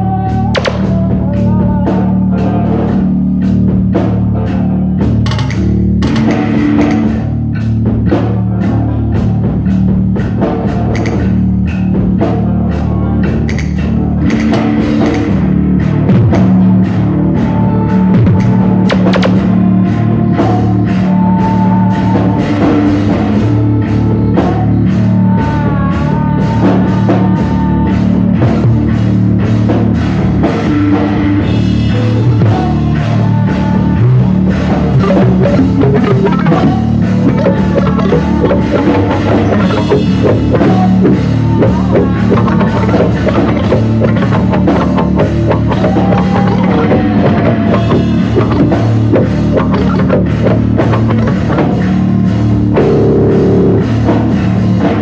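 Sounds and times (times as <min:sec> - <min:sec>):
loud rock music: 0:00.0 - 0:55.0.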